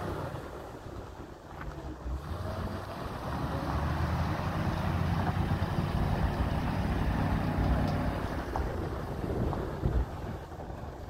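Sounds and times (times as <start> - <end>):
truck engine driving by on gravel: 0.0 - 11.0.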